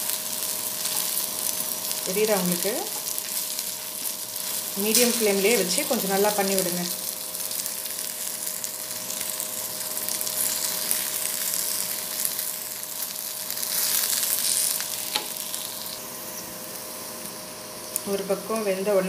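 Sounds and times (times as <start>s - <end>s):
okra sizzling in oil: 0.0s - 19.0s.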